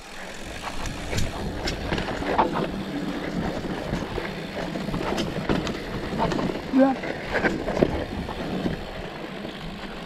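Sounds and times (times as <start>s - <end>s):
bike clicking and rattling: 0.0s - 10.0s
tyres rolling on dirt: 0.0s - 10.0s
wind rumble on microphone: 0.4s - 9.8s.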